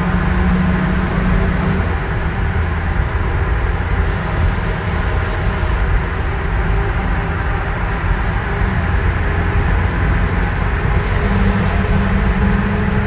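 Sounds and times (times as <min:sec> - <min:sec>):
diesel truck engine rumbling: 0:00.0 - 0:13.0
low hum: 0:00.0 - 0:13.0.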